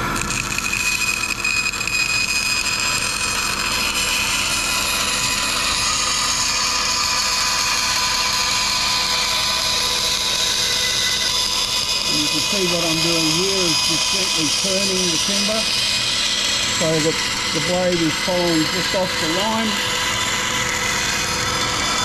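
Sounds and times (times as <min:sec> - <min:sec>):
bandsaw cutting wood: 0:00.0 - 0:22.0.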